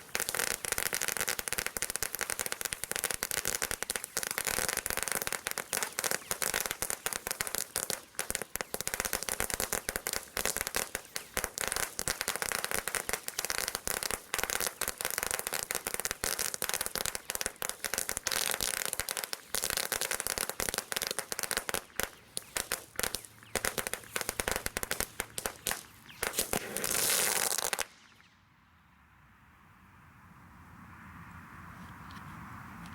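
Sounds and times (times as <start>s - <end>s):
firework hissing burst: 0.0s - 28.3s
firework crackling pops: 0.0s - 28.4s.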